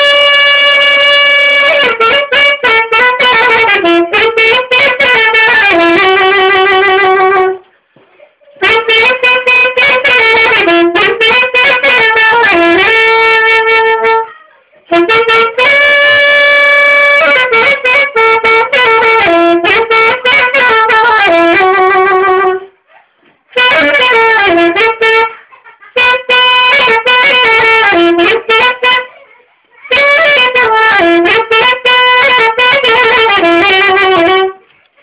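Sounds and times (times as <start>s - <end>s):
saxophone playing a melody: 0.0s - 7.8s, 8.5s - 22.9s, 23.5s - 34.7s.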